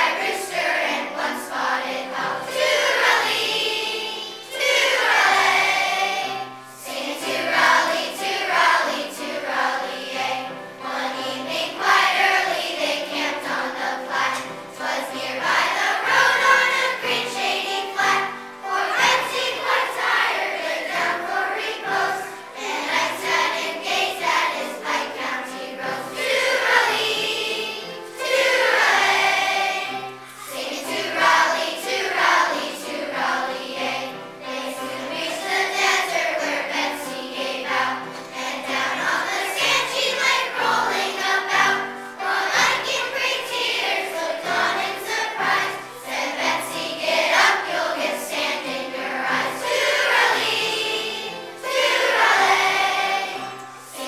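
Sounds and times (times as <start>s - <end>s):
children's choir singing: 0.0s - 54.0s
upright piano: 0.0s - 54.0s.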